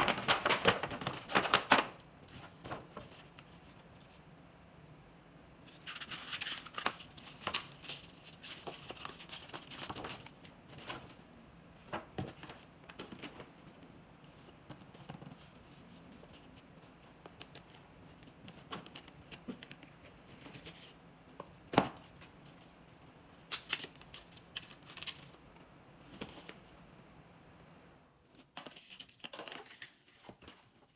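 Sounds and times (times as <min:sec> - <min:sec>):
paper and wrapping rustling: 0:00.0 - 0:04.2, 0:05.7 - 0:11.2, 0:11.8 - 0:26.7, 0:28.4 - 0:30.9.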